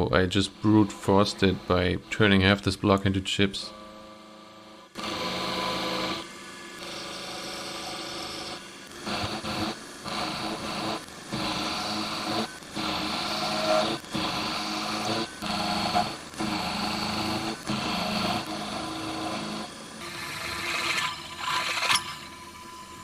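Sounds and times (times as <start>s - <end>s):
machine tool cutting metal: 0.4s - 1.8s, 4.9s - 23.0s.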